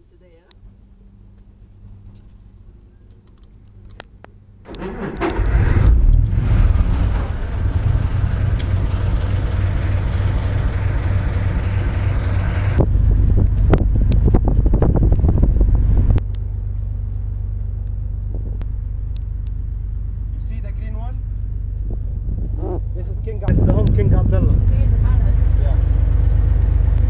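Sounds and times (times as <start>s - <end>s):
boat engine rumbling: 4.6s - 27.0s.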